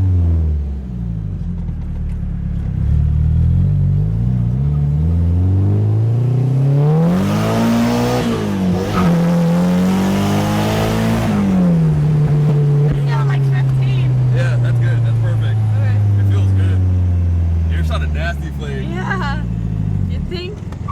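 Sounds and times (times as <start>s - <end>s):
turbocharged car engine accelerating: 0.0s - 20.9s.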